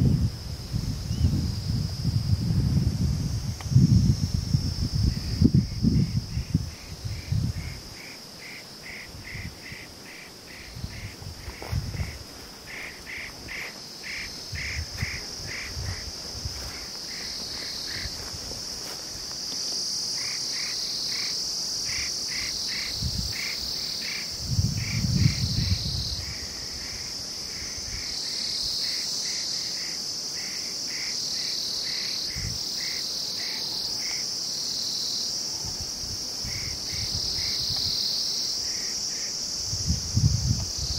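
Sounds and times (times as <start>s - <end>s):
insects chirping: 0.0s - 40.9s
insects droning: 0.0s - 40.9s.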